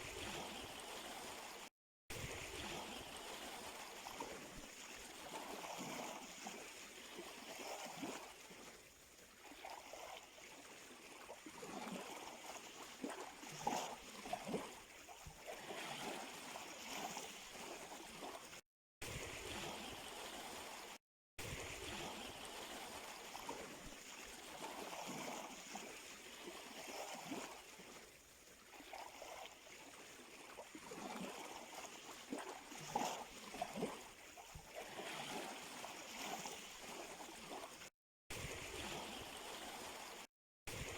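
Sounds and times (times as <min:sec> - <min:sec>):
small waves washing at shore: 0:00.0 - 0:40.9.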